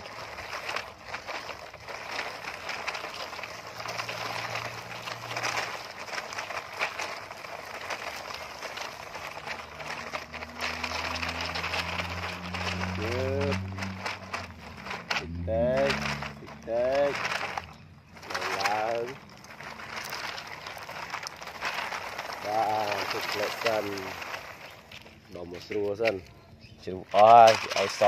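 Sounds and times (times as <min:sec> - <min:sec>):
toy trucks crunching on gravel: 0:00.0 - 0:28.0.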